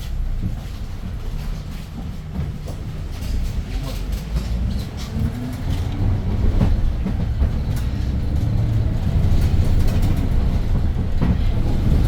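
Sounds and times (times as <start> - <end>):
bus engine droning: 0.0 - 12.0
road noise: 0.0 - 12.0.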